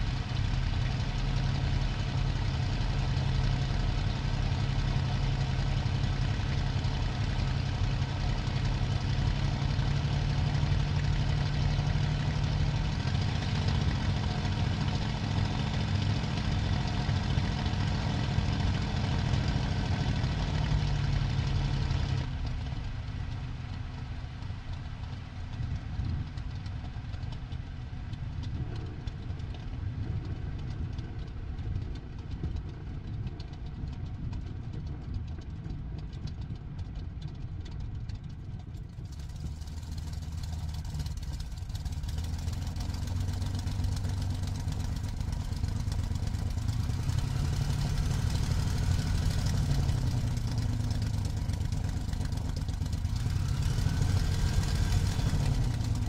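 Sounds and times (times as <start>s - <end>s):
aircraft engine running: 0.0s - 56.0s.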